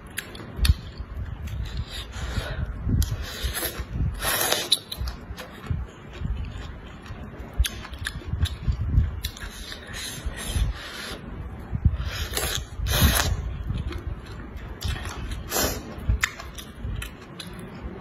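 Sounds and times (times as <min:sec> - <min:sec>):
soft chewing: 0:00.0 - 0:18.0.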